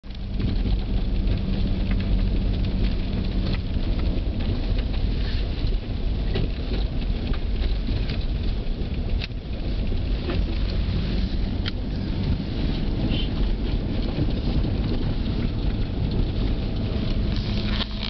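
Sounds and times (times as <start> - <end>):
car engine rumble: 0.0 - 18.0
crackles and clicks: 0.0 - 18.0
tyres rolling over snow: 0.1 - 18.0.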